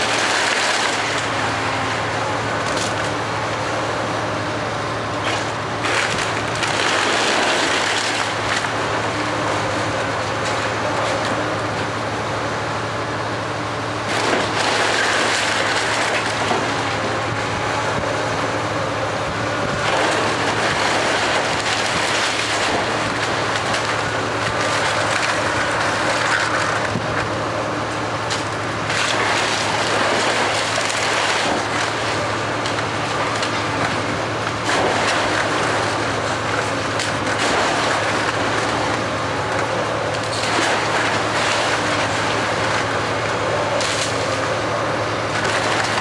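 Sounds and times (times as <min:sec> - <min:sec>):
wood splintering: 0:00.0 - 0:03.8, 0:05.0 - 0:12.2, 0:13.9 - 0:18.2, 0:19.6 - 0:46.0
excavator running: 0:00.0 - 0:46.0.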